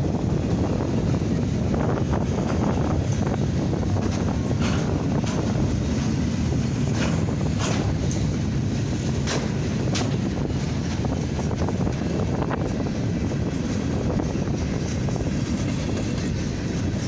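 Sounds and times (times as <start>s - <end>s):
freight train rumbling past: 0.0s - 17.0s
train wheels clacking: 0.0s - 17.0s
wind on microphone: 0.0s - 17.0s.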